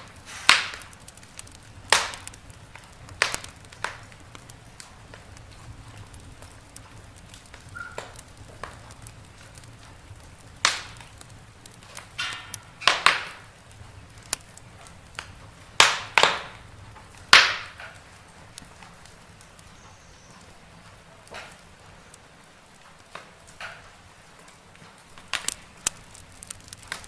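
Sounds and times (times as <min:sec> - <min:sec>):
fire pops and snaps: 0:00.0 - 0:27.0
wood fire crackling: 0:00.0 - 0:27.0.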